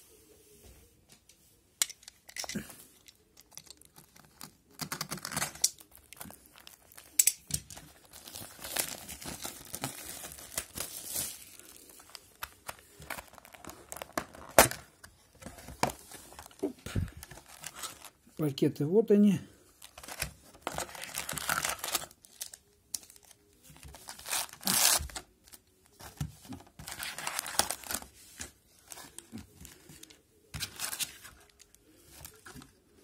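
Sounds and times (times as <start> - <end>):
plastic shrink wrap crinkling and tearing: 2.5 - 15.1, 15.7 - 18.3, 19.8 - 32.8.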